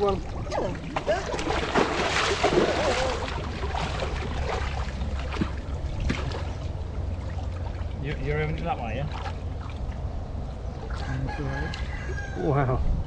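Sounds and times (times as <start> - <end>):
water splashing: 0.0 - 11.9
steady low rumble: 0.0 - 13.0.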